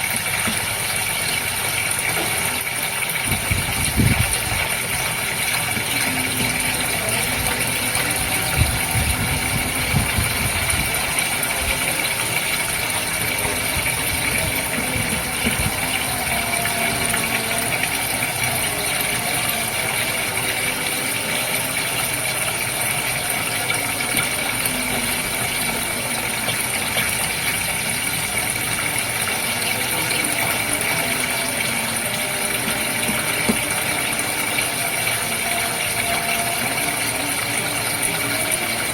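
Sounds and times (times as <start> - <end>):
aquarium pump hum: 0.0 - 38.9.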